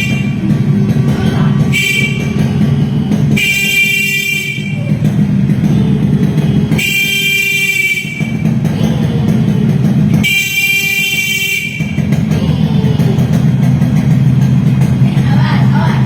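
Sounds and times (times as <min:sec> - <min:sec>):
motorcycle horn honking: 0:00.0 - 0:14.8.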